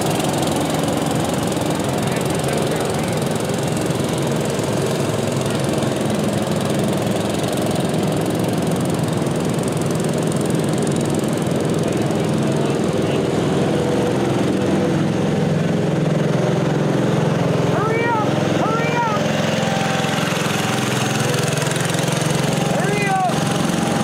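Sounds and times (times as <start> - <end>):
garden tractor engines: 0.0 - 24.0.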